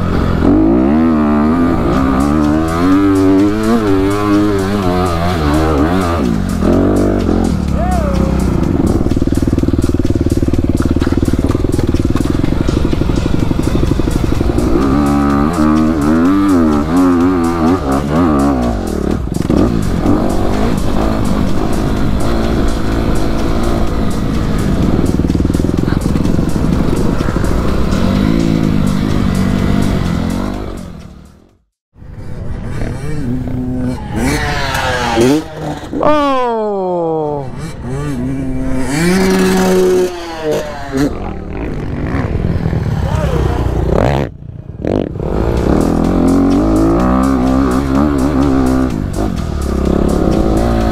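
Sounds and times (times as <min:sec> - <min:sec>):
dirt bike engine revving: 0:00.0 - 0:31.5, 0:32.1 - 0:50.9
dirt bike engine running: 0:00.0 - 0:31.6, 0:32.3 - 0:50.9.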